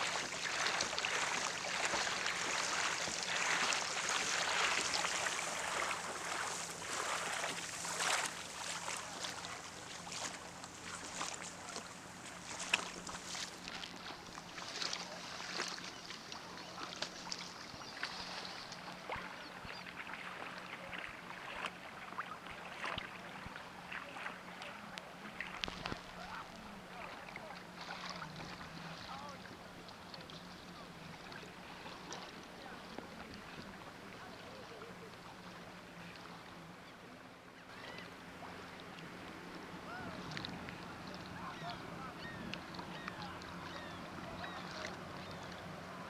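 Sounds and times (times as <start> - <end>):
water splashing against kayak hull: 0.0 - 36.6, 37.7 - 46.0.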